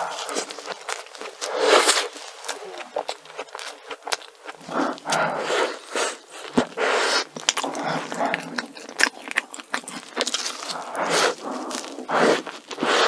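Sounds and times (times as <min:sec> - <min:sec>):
biting into soft doughnut: 0:00.0 - 0:13.0
chewing with mouth clicks: 0:00.0 - 0:13.0.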